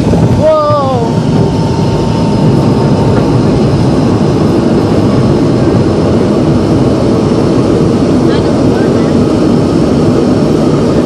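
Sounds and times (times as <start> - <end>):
jet engines roaring in cabin: 0.0 - 11.0
runway rumble: 0.0 - 11.0.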